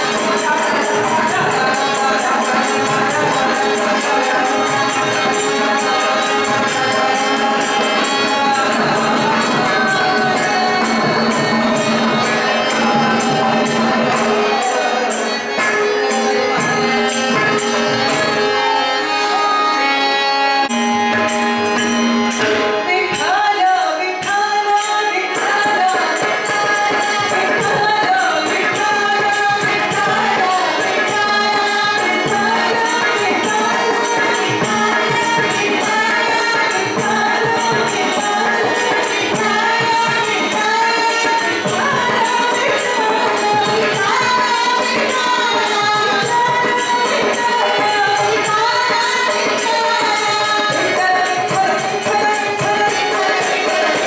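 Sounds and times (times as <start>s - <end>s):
jingling percussion beat: 0.0s - 18.7s, 20.7s - 54.0s
women singing devotional song: 0.0s - 20.7s, 22.6s - 54.0s
instrumental accompaniment: 0.0s - 54.0s.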